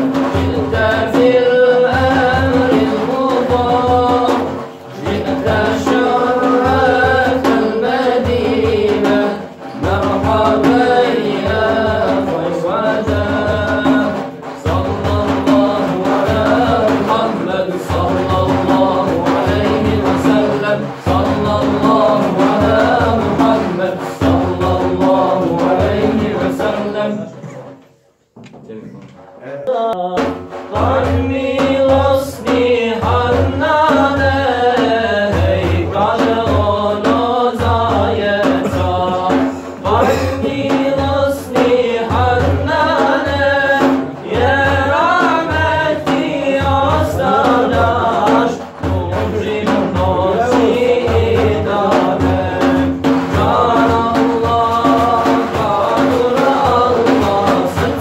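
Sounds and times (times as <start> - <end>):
frame drum beat: 0.0 - 27.8, 30.0 - 58.0
men singing a hymn: 0.0 - 27.8, 29.4 - 58.0.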